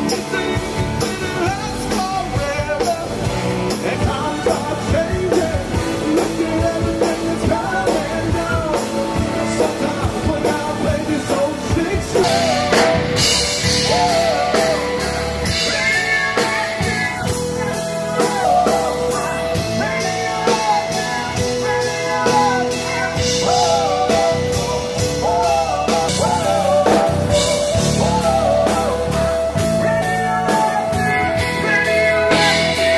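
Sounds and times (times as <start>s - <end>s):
drum kit: 0.0s - 32.9s
electric guitar: 0.0s - 32.9s
man singing lead vocal: 0.0s - 32.9s.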